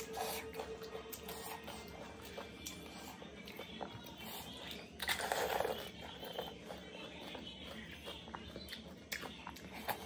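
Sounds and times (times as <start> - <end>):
chewing crunchy food: 0.0 - 10.0.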